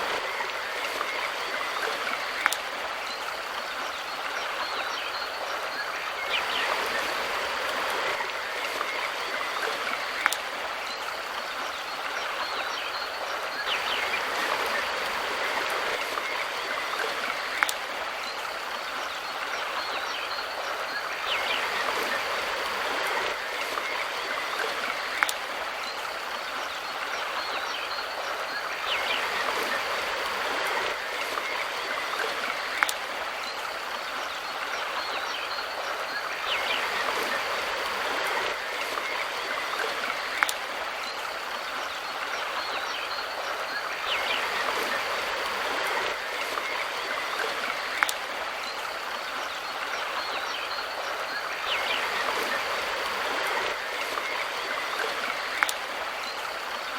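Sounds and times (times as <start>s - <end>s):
bird chirps: 0.0s - 56.9s
river stream rushing: 0.0s - 56.9s.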